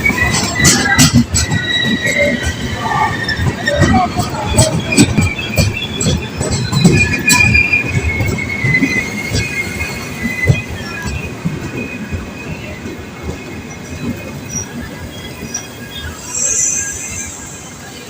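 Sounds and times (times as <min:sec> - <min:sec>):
wheels clacking over rail joints: 0:00.0 - 0:16.2
wheels squealing on rails: 0:00.0 - 0:18.0.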